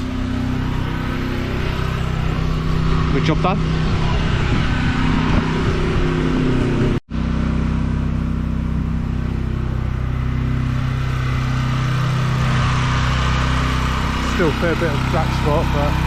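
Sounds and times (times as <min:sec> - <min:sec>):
pressure washer engine running: 0:00.0 - 0:16.0.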